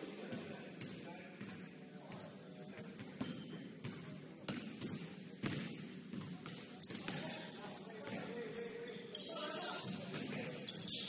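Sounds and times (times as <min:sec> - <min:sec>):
murmur of gym: 0:00.0 - 0:11.0.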